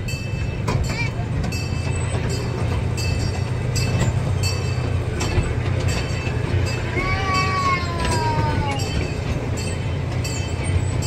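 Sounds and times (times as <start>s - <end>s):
train car rolling on track: 0.0s - 11.0s
wheels clicking over rail joints: 0.0s - 11.0s.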